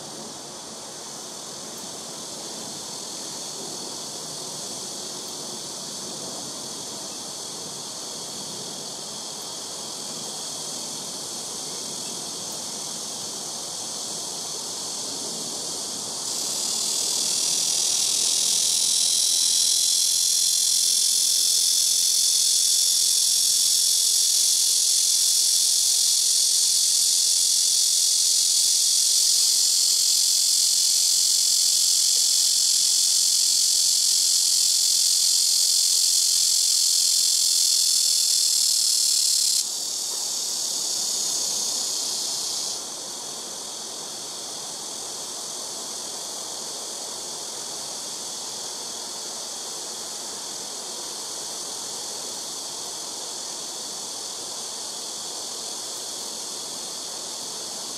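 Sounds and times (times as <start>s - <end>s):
cicada buzzing: 0.0s - 57.9s.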